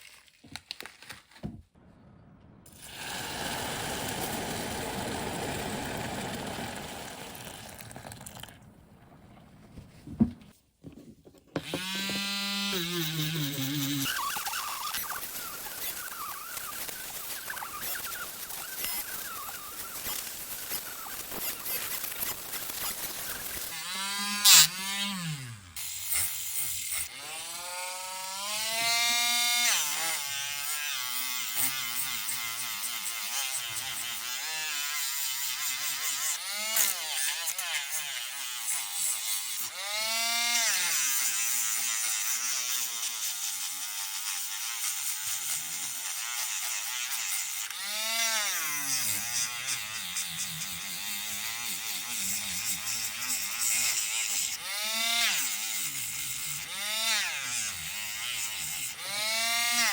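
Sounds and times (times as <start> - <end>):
power tool motor whining: 2.7 - 8.5, 11.6 - 59.9.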